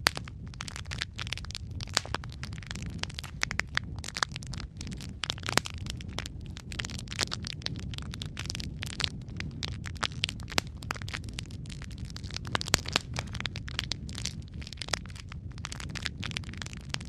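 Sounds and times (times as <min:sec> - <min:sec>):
fire popping and snapping: 0:00.0 - 0:17.0
low rumble of flames: 0:00.0 - 0:17.0.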